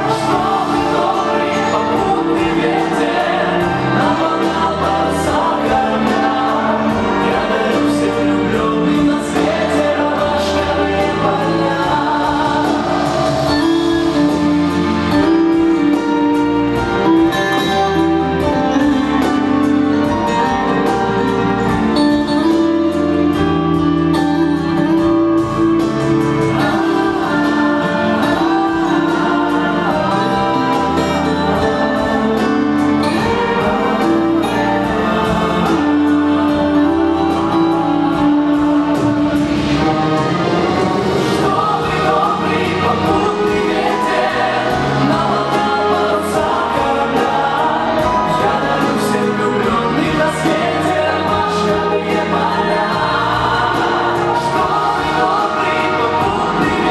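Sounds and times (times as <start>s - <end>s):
song with choir-like voices: 0.0s - 56.9s.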